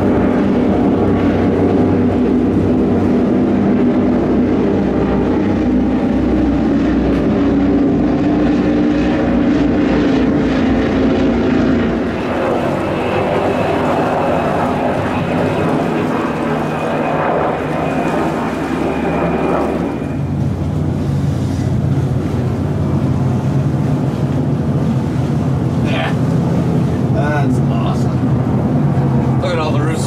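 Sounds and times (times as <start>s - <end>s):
powerboat engines droning: 0.0s - 30.0s.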